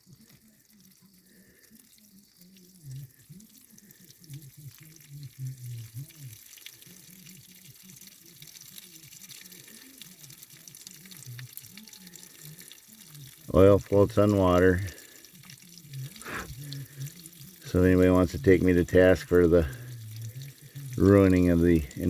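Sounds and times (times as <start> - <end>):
water trickling and splashing: 0.0 - 22.0.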